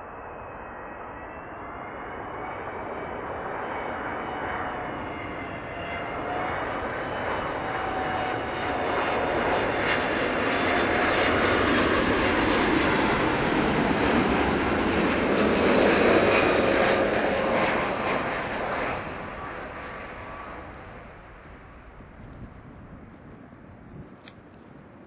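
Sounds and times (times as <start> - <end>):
jet engine rush with whine: 0.0 - 25.0.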